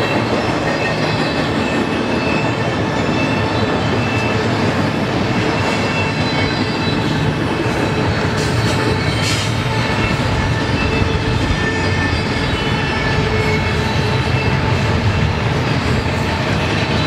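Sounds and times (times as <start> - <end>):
steel wheels rumbling on rail: 0.0 - 17.0
high-pitched wheel squeal: 0.7 - 17.0.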